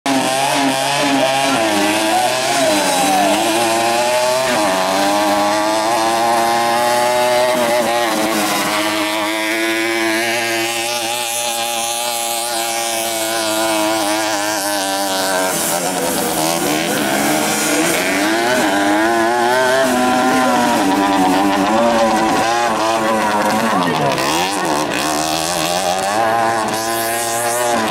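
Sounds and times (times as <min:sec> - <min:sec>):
two-stroke moped engines revving: 0:00.0 - 0:27.9.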